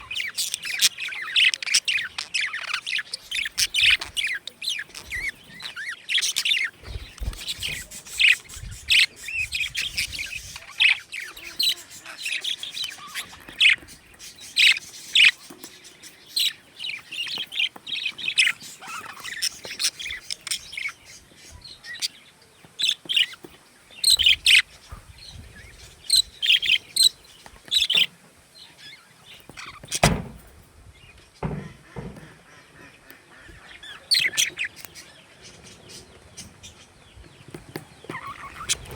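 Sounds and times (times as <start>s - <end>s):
budgerigars chirping: 0.0s - 30.4s, 31.4s - 38.9s.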